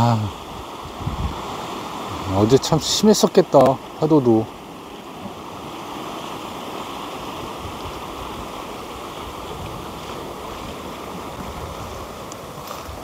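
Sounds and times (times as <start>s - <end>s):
sea surf washing against shore: 0.0s - 13.0s.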